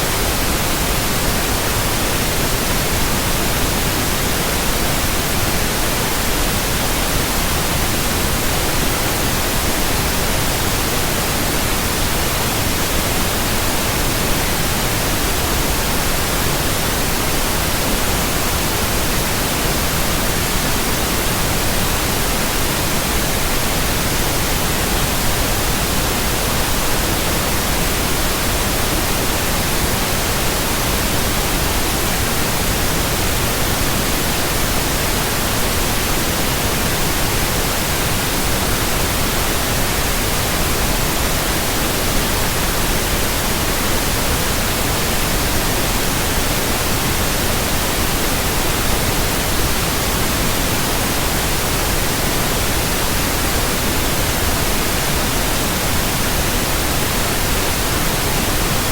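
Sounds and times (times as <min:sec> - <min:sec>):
steady white noise hiss: 0:00.0 - 0:58.9.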